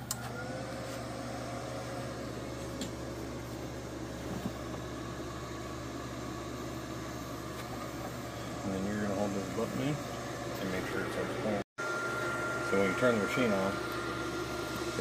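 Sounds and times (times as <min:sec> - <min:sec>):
welder cooling fan whirring: 0:00.0 - 0:15.0.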